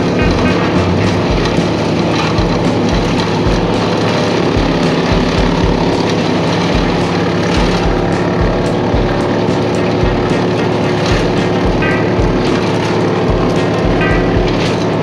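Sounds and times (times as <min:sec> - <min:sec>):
branches fed into chipper: 0:00.0 - 0:15.0
wood chipper engine running: 0:00.0 - 0:15.0.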